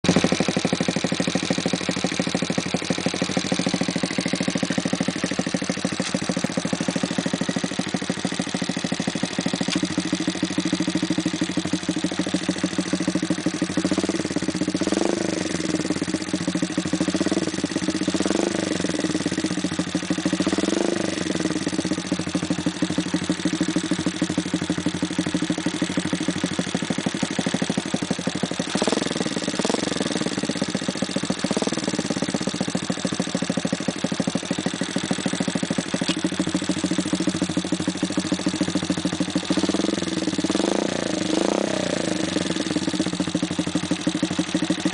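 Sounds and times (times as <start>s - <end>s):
motorcycle engine idling: 0.0s - 44.9s
motorcycle throttle blips: 0.1s - 30.6s, 34.9s - 43.6s.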